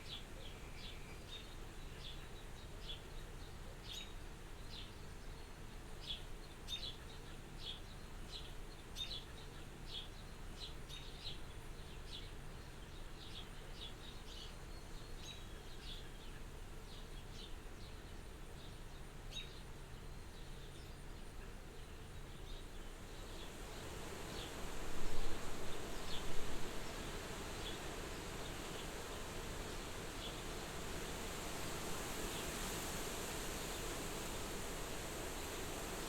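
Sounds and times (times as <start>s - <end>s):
wind: 0.0s - 36.0s
small birds chirping: 6.0s - 36.0s.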